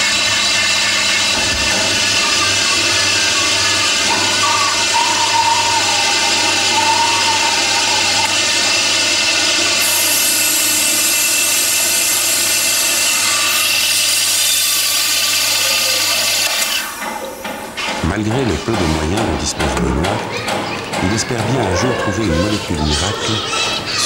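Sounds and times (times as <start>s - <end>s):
motors whining and humming: 0.0s - 24.0s.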